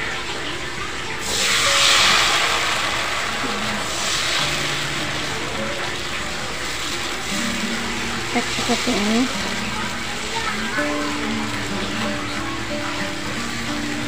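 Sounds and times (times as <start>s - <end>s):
batter sizzling in hot wok: 0.0s - 14.0s.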